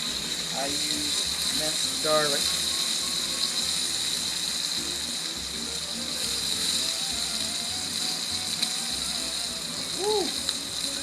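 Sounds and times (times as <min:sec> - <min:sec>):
faint background music: 0:00.0 - 0:11.0
steak sizzling on a griddle: 0:00.0 - 0:11.0.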